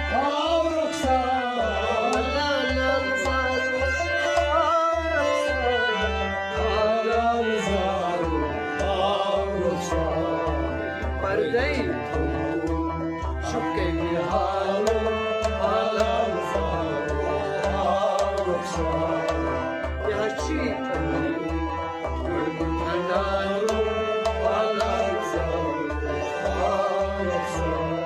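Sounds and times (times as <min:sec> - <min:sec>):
harmonium: 0:00.0 - 0:28.0
man singing: 0:00.0 - 0:28.0
hand drum beat: 0:01.1 - 0:05.2, 0:08.2 - 0:28.0.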